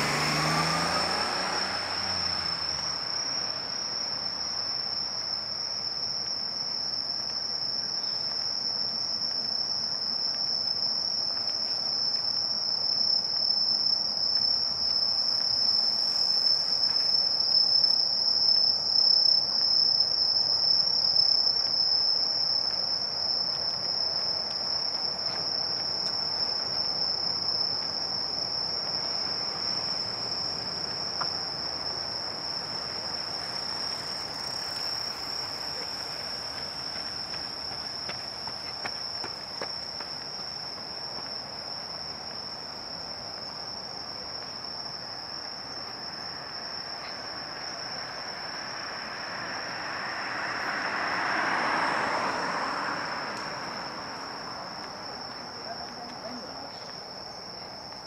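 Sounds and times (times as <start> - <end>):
crickets chirping chorus: 0.0 - 58.0.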